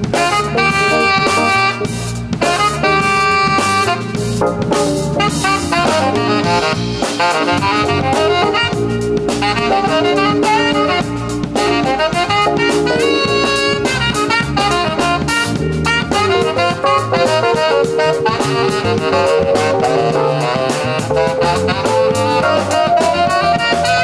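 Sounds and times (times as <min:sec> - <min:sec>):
drum kit and cymbals: 0:00.0 - 0:24.0
electronic keyboard: 0:00.0 - 0:24.0
saxophone lead: 0:00.0 - 0:24.0.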